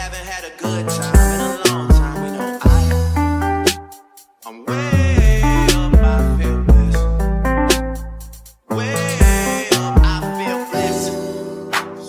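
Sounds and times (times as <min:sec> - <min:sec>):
instrumental hip hop music: 0:00.0 - 0:12.0.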